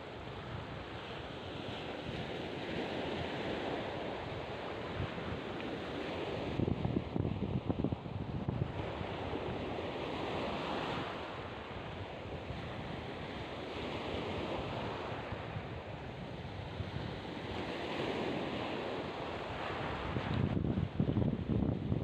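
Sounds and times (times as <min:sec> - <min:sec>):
sea surf washing on beach: 0:00.0 - 0:22.0.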